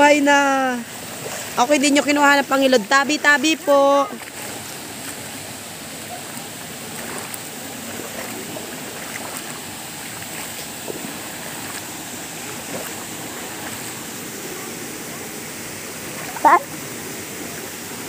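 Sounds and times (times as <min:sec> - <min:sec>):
small waterfall rushing: 0:00.0 - 0:18.0
stream flowing over gravel: 0:00.0 - 0:18.0.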